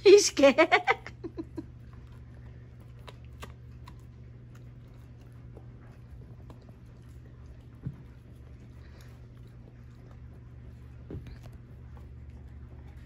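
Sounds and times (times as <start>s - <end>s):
low hum: 0.0s - 13.0s
dog teeth clicking on chew: 1.8s - 13.0s.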